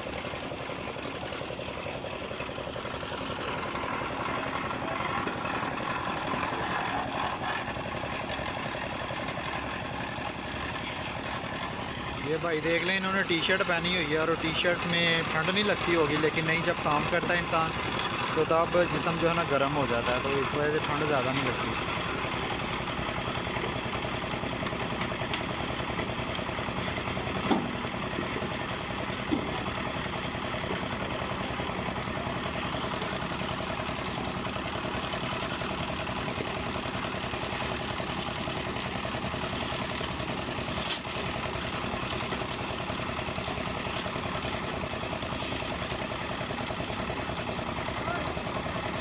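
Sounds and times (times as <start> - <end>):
engine running steadily: 0.0 - 49.0.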